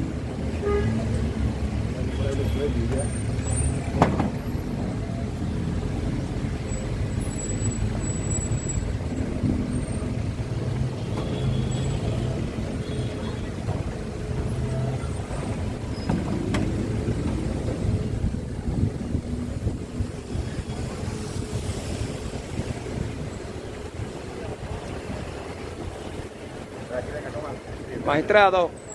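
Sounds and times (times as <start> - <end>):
street traffic rumble: 0.0 - 28.9.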